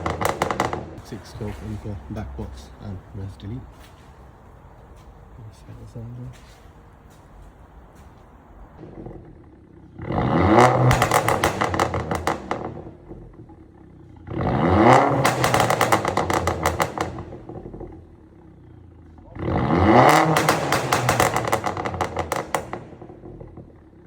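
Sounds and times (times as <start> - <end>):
car engine idling and revving: 0.0 - 24.0
exhaust pops and crackles: 0.0 - 24.0.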